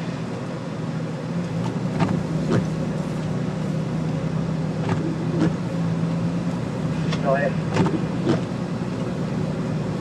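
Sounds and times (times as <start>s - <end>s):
engine and road drone: 0.0s - 10.0s.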